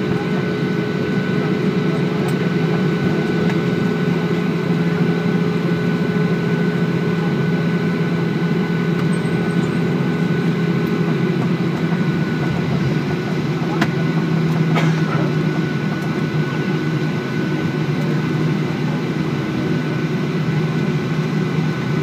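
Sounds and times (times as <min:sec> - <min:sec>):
steady whining tones: 0:00.0 - 0:20.6
jet engines idling drone: 0:00.0 - 0:22.0.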